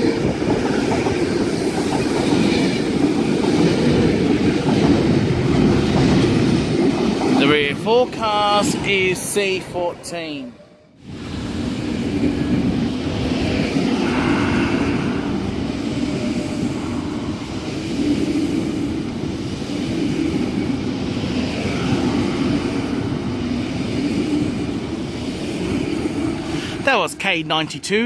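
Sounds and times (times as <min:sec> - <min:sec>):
train passing with rumbling wheels: 0:00.0 - 0:28.0.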